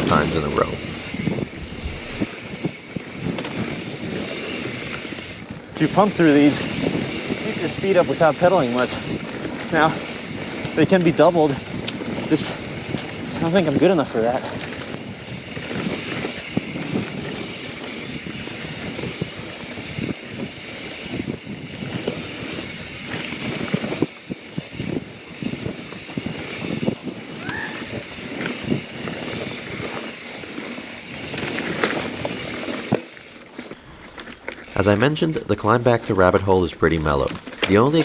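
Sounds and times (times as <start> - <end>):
wind past microphone: 0.0 - 32.9
bike knocks and rattles: 0.0 - 38.0
tyres rushing on dirt: 0.0 - 38.0.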